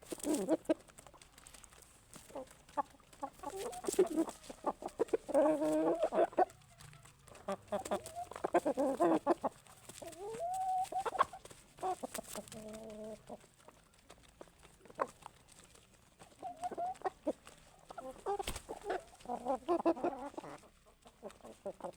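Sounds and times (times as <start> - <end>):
chickens clucking: 0.0 - 21.9.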